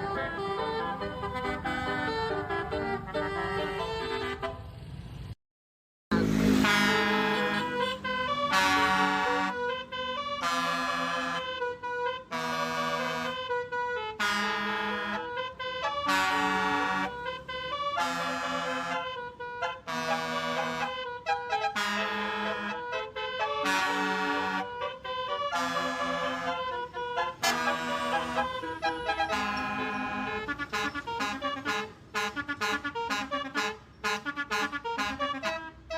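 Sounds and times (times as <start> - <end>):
multi-tone bus horn playing a tune: 0.0 - 5.0, 6.1 - 35.9.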